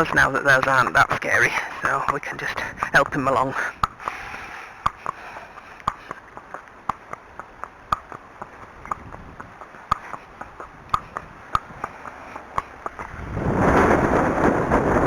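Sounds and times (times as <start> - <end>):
horse hooves clip-clopping: 0.0 - 13.4.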